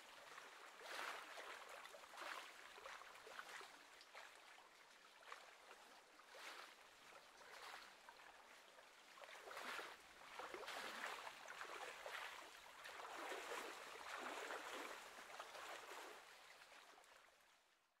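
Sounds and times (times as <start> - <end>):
small waves lapping at shore: 0.0 - 17.5.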